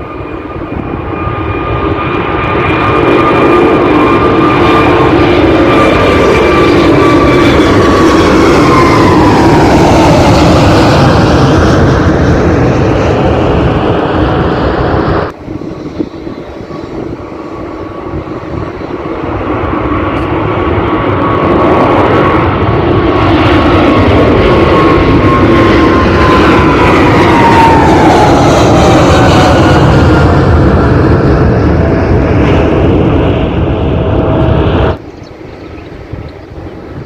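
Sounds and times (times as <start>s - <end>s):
jet engines whining: 0.0s - 37.0s.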